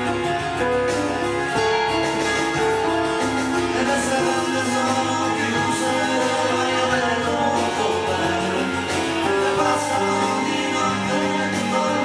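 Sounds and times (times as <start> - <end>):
keyboard melody of held notes: 0.0 - 12.0
steady low bass line: 0.0 - 12.0.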